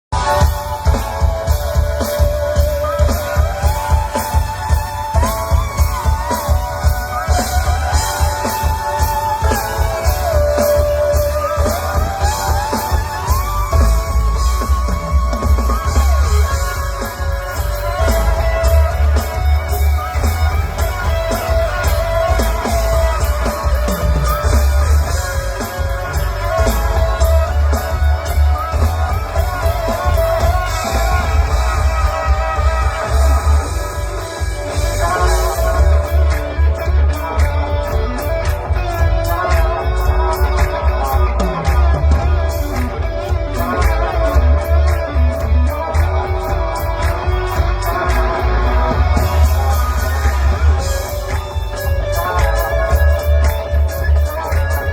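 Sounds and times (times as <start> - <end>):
bass and drum beat: 0.0 - 54.9
live rock band playing: 0.0 - 54.9.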